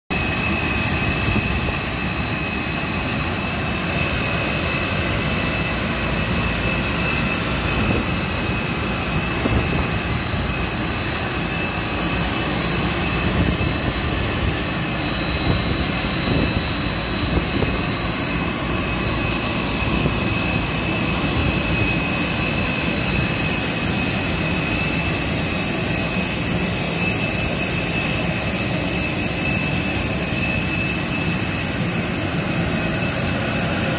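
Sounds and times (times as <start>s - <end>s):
jet turbine rush: 0.1s - 33.9s.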